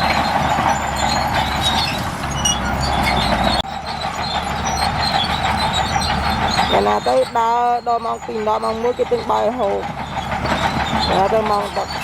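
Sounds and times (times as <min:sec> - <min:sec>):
heavy diesel machine engine: 0:00.0 - 0:12.0.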